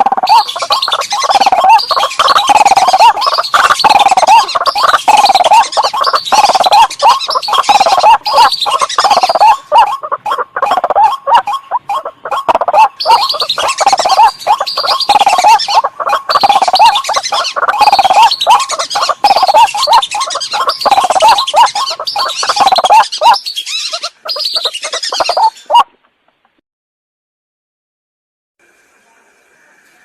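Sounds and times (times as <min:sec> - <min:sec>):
recorded waterbird calls: 0:00.0 - 0:26.6.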